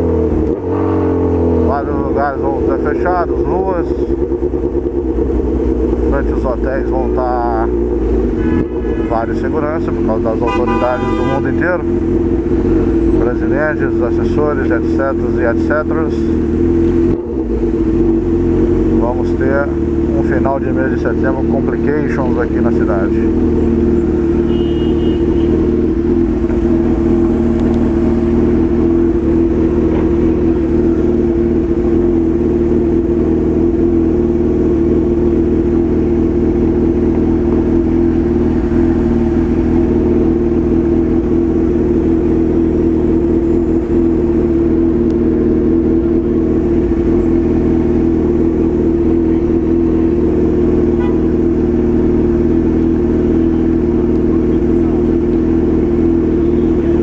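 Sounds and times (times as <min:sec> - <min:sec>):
motorcycle engine running steadily: 0:00.0 - 0:57.0.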